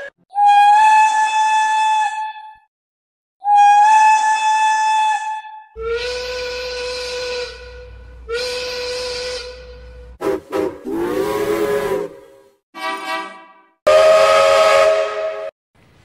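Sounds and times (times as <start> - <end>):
steam whistle blasts: 0.0 - 2.6, 3.4 - 15.6.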